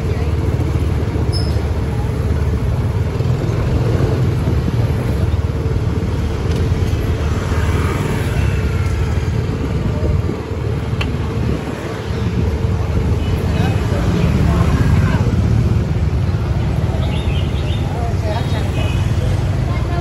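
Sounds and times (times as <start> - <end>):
low traffic rumble: 0.0 - 20.0
motor scooters riding past: 0.0 - 20.0.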